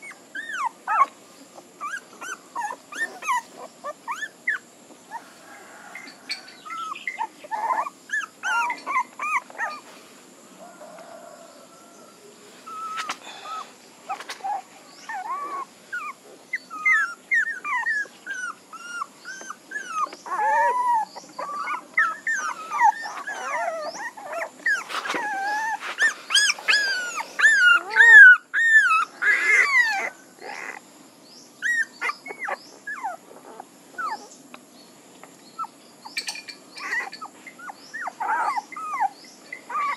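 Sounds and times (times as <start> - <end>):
puppies whining: 0.0 - 1.1, 1.8 - 9.9, 12.7 - 30.8, 31.6 - 34.4, 35.6 - 39.9.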